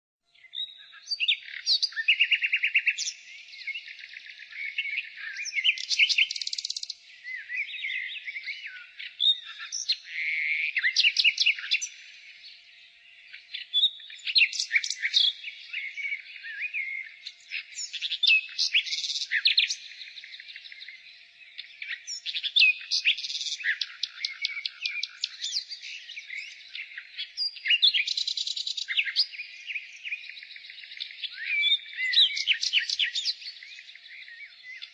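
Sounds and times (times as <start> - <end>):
nightingale singing: 0.3 - 34.9.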